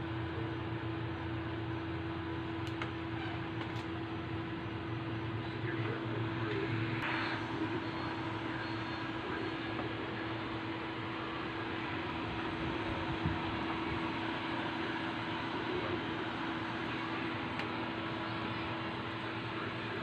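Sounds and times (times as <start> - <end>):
fan hum and hiss: 0.0 - 20.0.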